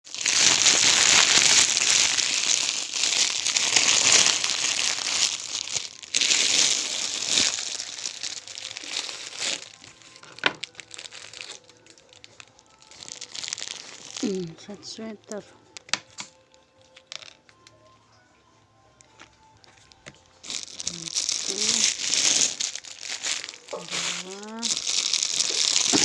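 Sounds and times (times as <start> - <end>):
packaging crinkling and rustling: 0.0 - 17.6, 19.1 - 26.0.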